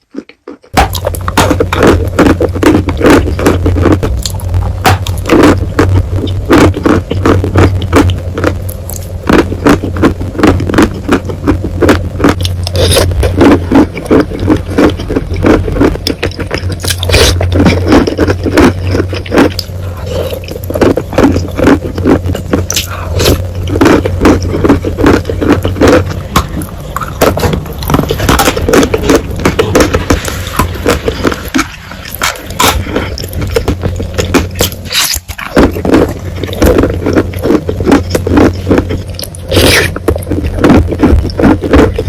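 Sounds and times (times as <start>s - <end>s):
chewing and crunching chalk: 0.0s - 42.0s
low hum: 0.7s - 42.0s.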